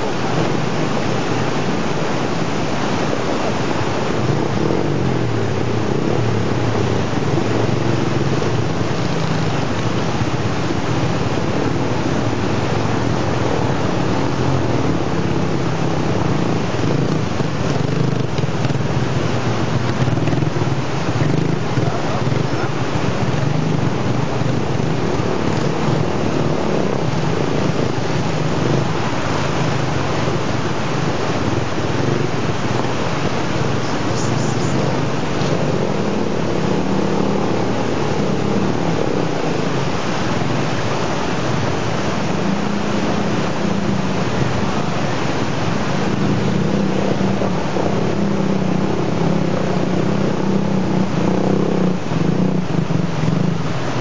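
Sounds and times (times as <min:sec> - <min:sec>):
motorcycle engines revving: 0:00.0 - 0:54.0
rushing stream water: 0:00.0 - 0:54.0.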